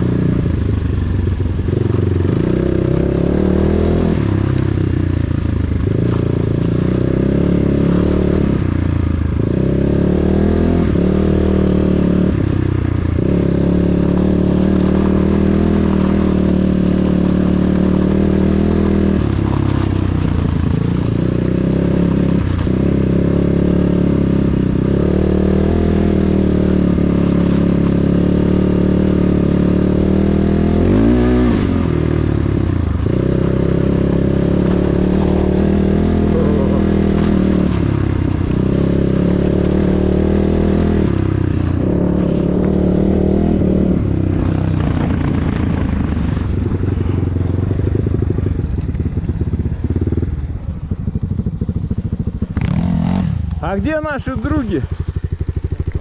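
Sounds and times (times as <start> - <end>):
motorcycle engine under throttle: 0.0 - 56.0.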